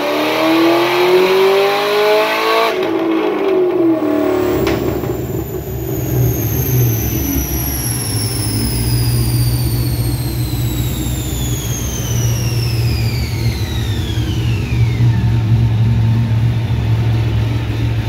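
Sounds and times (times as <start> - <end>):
engine running on dyno: 0.0 - 18.0
high whine falling in pitch: 1.0 - 17.5.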